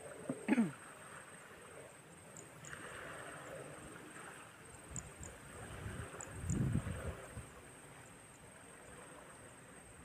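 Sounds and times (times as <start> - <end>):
faint outdoor noise: 0.0 - 10.0
insects buzzing and chirping: 0.0 - 10.0.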